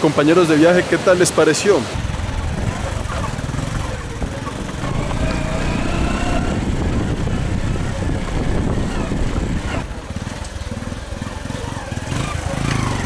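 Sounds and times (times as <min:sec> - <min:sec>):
small motorcycle engine running: 0:02.0 - 0:13.0.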